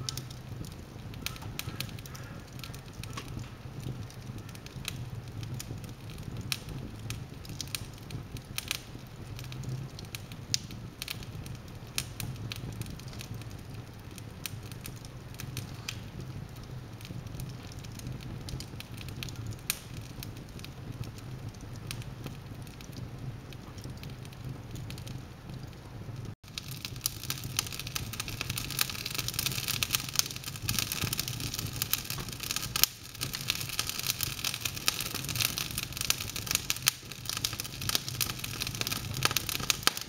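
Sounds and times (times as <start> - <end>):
fire low rumble: 0.0 - 40.0
logs crackling and popping: 0.0 - 40.0.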